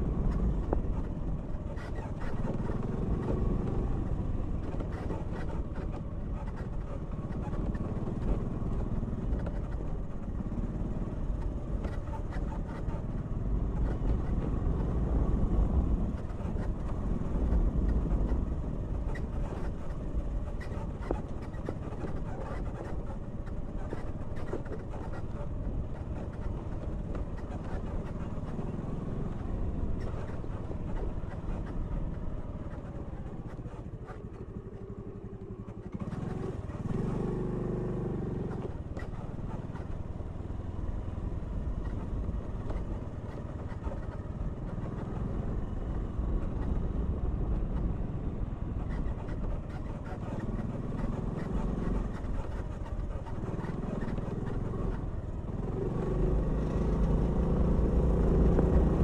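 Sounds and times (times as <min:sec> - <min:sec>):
scooter engine rumbling: 0:00.0 - 0:59.0.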